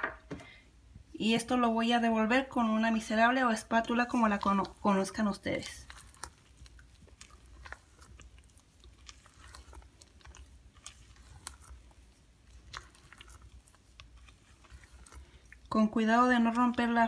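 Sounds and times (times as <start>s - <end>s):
spatula folding wet batter: 2.2s - 17.0s.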